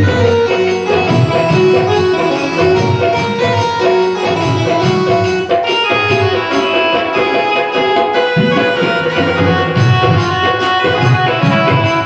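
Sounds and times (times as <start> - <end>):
devotional instrumental music: 0.0 - 12.0.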